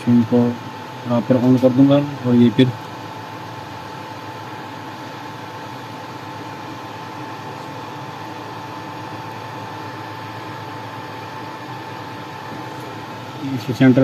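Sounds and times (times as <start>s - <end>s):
electric fan whirring: 0.0s - 14.0s.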